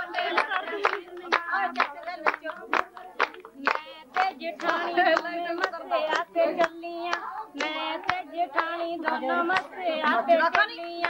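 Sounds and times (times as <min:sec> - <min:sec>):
steady hand claps: 0:00.0 - 0:11.0
women singing folk songs: 0:00.0 - 0:11.0.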